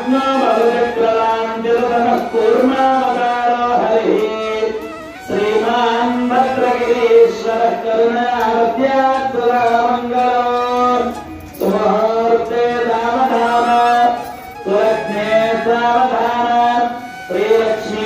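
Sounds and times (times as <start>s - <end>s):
person singing devotional melody: 0.0s - 18.0s.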